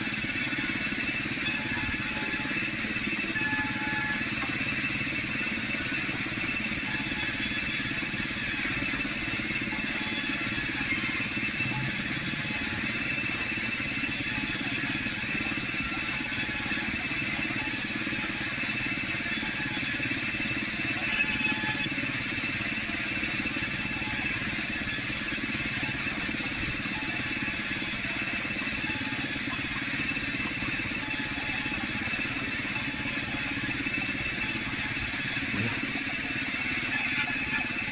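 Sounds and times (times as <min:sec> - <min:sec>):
band saw hum and whine: 0:00.0 - 0:37.9.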